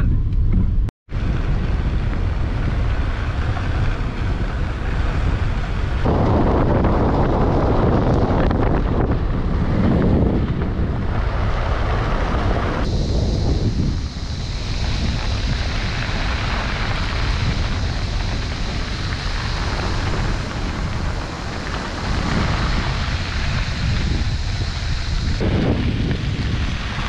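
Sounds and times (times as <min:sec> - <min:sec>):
car rumble on dirt road: 0:00.0 - 0:27.0
wind buffeting microphone: 0:00.0 - 0:27.0.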